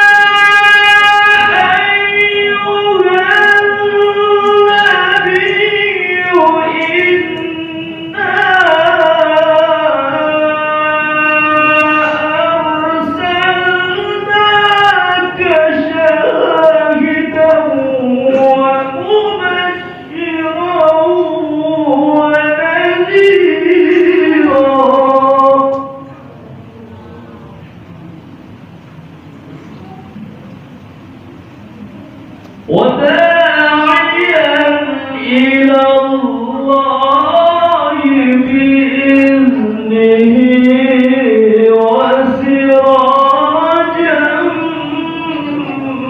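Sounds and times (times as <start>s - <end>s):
solo voice melodic recitation: 0.0s - 26.2s, 32.7s - 46.0s
faint background noise: 0.0s - 46.0s.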